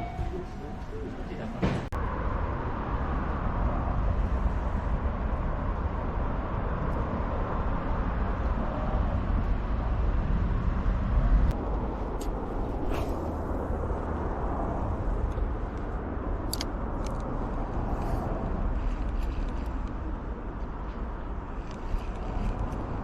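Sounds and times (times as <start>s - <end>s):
outdoor rumble and hiss: 0.0s - 23.0s.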